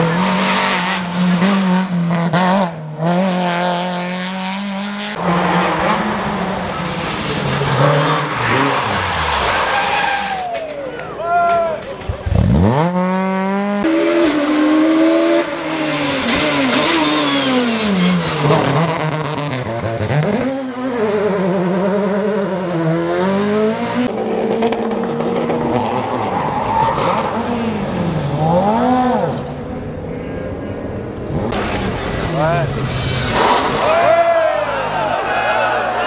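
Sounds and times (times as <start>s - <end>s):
rally car engines revving: 0.0s - 10.5s, 11.6s - 36.0s
tyre and road noise: 0.0s - 36.0s.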